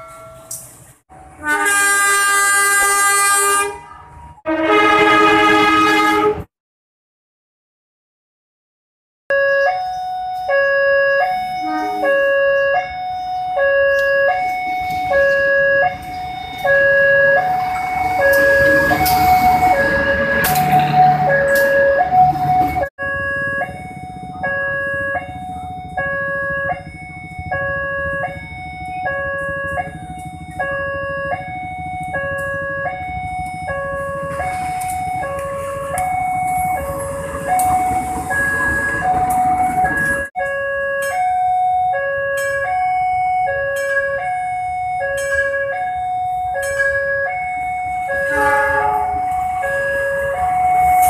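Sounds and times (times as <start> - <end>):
passing train rumble: 0.0 - 6.5, 11.3 - 51.0
level crossing two-tone alarm: 9.3 - 51.0.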